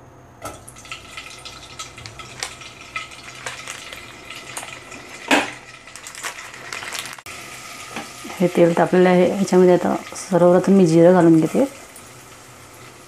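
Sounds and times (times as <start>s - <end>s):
butter sizzling in hot oil: 0.4s - 13.0s.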